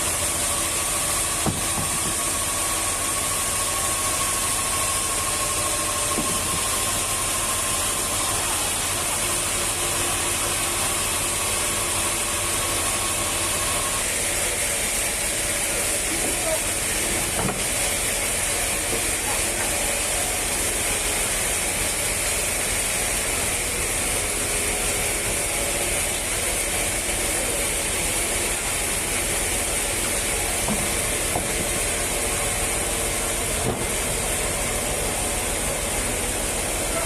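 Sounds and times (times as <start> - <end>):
woodworking machine hissing: 0.0 - 37.0.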